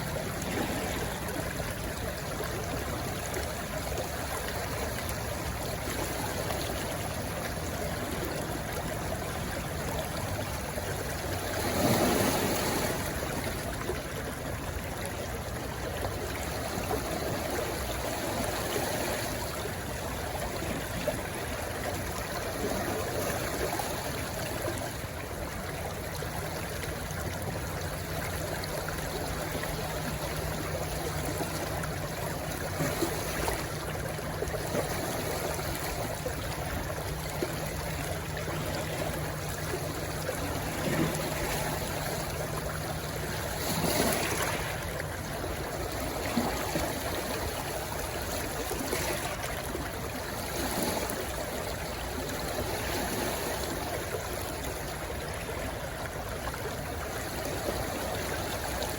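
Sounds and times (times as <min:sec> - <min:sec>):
stream rushing and gurgling: 0:00.0 - 0:58.9.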